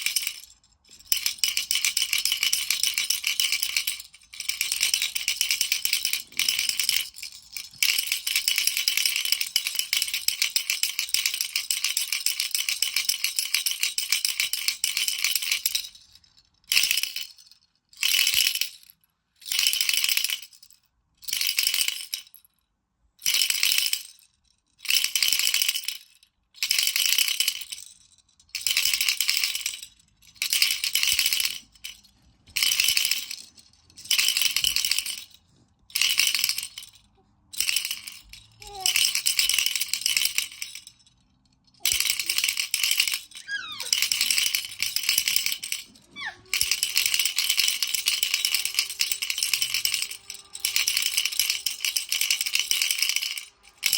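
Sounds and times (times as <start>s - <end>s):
baby rattle shaking: 0.0s - 22.6s, 23.2s - 53.9s.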